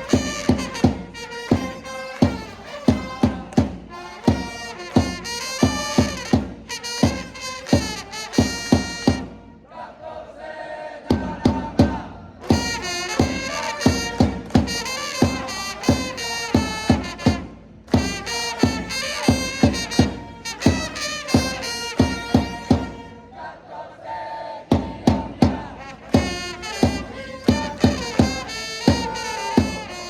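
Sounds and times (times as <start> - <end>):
drums striking: 0.0 - 9.5, 11.1 - 23.0, 24.7 - 30.0
trumpets playing cheer song: 0.0 - 10.2, 11.3 - 24.2, 24.9 - 30.0
fans singing along: 0.0 - 30.0.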